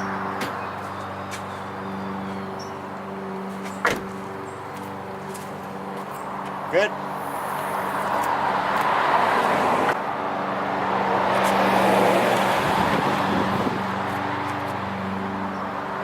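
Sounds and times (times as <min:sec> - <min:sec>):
passing vehicles: 0:00.0 - 0:16.0.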